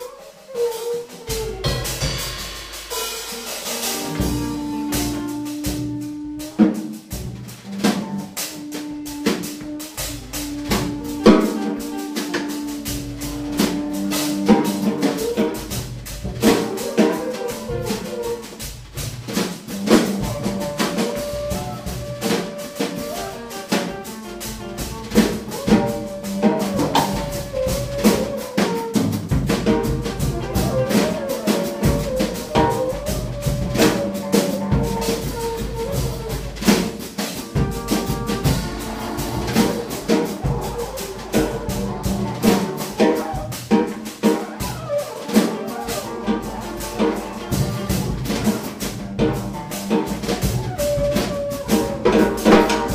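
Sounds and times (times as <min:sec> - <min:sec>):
drum kit: 0:00.0 - 0:52.9.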